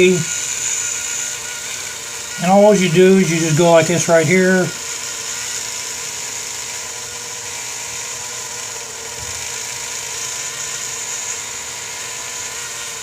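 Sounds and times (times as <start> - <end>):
rotary tool whining: 0.0 - 13.0.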